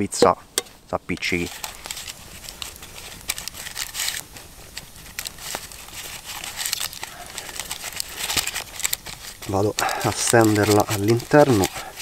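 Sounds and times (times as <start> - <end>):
baking paper crinkling: 1.0 - 12.0.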